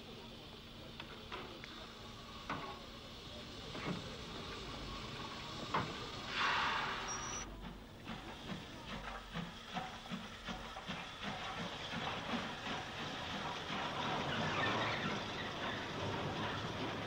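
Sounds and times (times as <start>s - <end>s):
steam hiss: 0.0s - 17.0s
steam locomotive exhaust beats: 0.0s - 17.0s.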